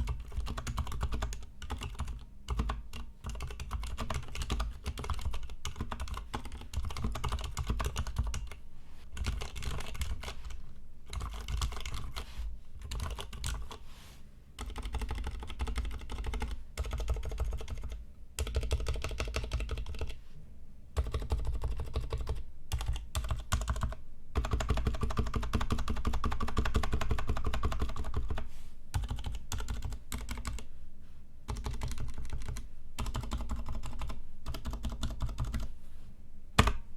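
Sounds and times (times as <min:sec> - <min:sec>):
mechanical keyboard typing: 0:00.0 - 0:08.6, 0:09.2 - 0:12.2, 0:12.8 - 0:13.8, 0:14.6 - 0:20.2, 0:21.0 - 0:30.7, 0:31.5 - 0:35.7.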